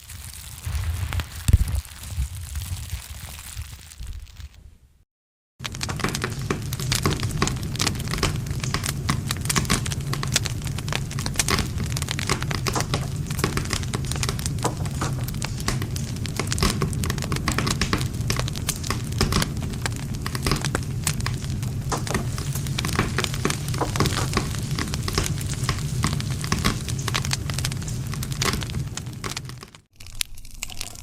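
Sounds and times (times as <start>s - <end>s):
campfire crackling and popping: 0.0s - 4.6s, 5.6s - 31.0s.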